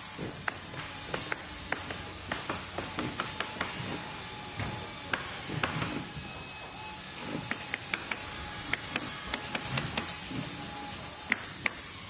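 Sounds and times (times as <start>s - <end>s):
hiss of running machines: 0.0s - 12.0s.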